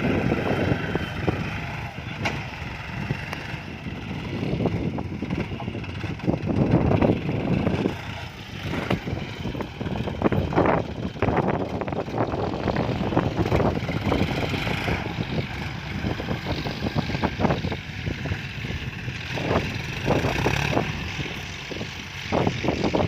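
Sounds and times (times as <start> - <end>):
tractor diesel engine under load: 0.0 - 23.0
wind on microphone: 0.0 - 23.0.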